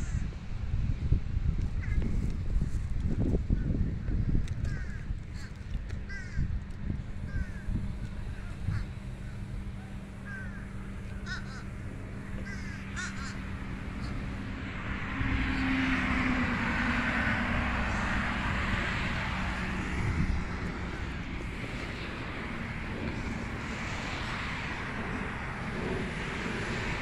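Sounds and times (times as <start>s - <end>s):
birds cawing: 0.0s - 0.3s, 1.8s - 2.1s, 4.6s - 27.0s
broad rushing noise: 0.0s - 27.0s
low hum: 0.0s - 27.0s.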